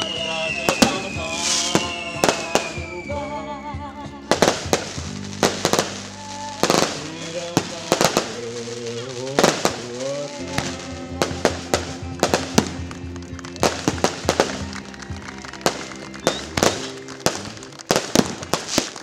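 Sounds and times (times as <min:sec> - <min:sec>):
fireworks bangs: 0:00.0 - 0:03.3, 0:04.3 - 0:19.0
music playing: 0:00.0 - 0:19.0.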